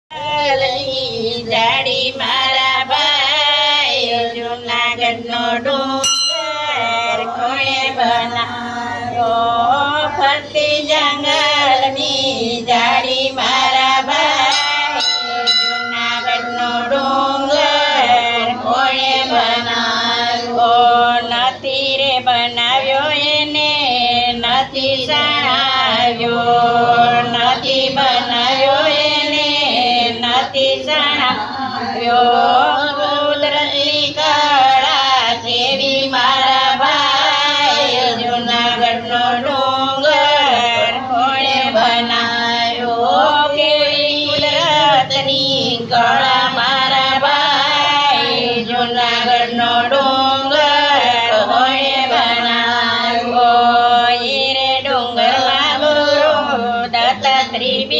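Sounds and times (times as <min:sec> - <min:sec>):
women singing folk song: 0:00.1 - 0:57.9.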